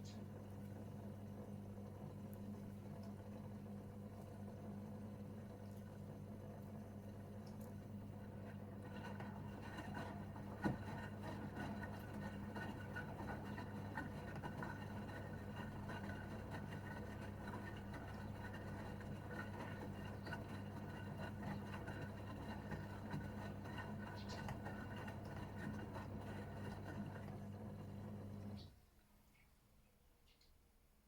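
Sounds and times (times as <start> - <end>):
washing machine motor humming: 0.0 - 28.8.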